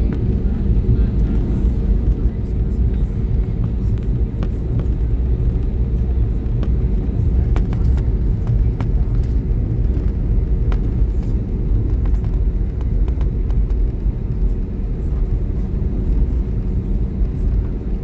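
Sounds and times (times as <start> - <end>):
airliner engine and runway rumble: 0.0 - 18.0.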